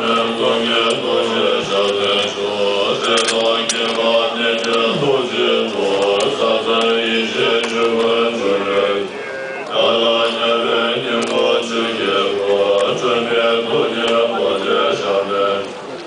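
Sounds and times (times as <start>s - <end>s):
monks chanting in held notes: 0.0s - 16.0s.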